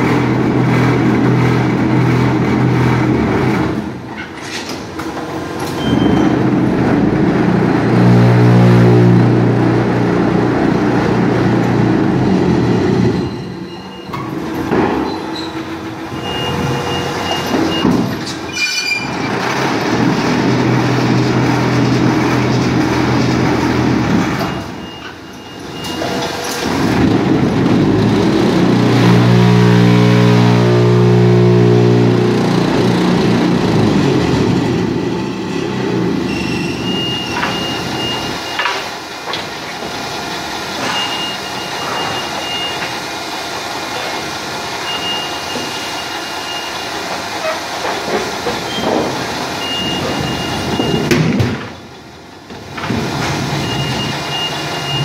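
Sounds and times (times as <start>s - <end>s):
block-making machine running: 0.0s - 55.0s.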